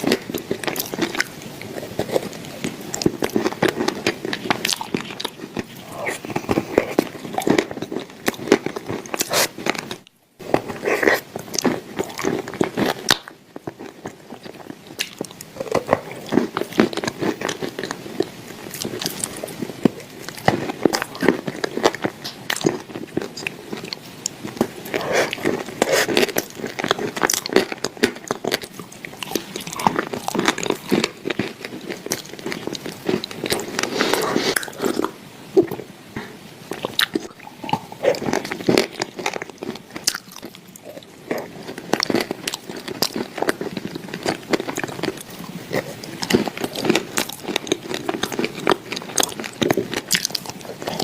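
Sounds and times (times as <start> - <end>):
crunchy chewing: 0.0 - 51.0.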